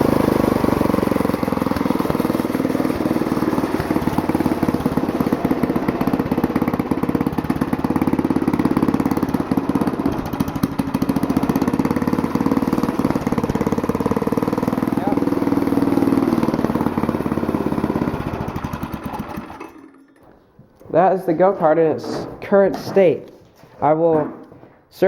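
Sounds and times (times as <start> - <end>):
go-kart engine running: 0.0 - 20.3.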